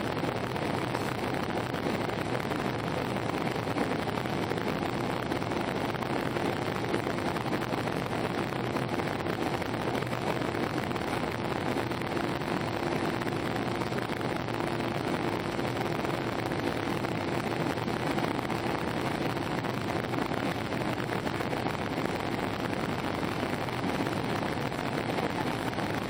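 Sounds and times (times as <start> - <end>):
airplane cabin airflow and engines: 0.0 - 26.0
faint steady hum: 0.0 - 26.0.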